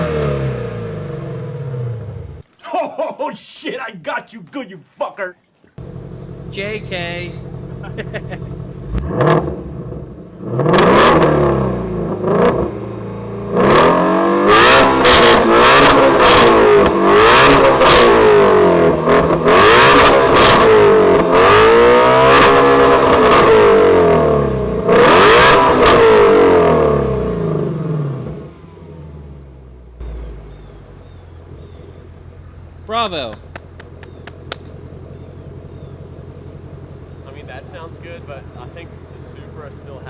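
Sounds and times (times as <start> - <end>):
car engine revving through exhaust: 0.0 - 2.4, 5.8 - 40.0.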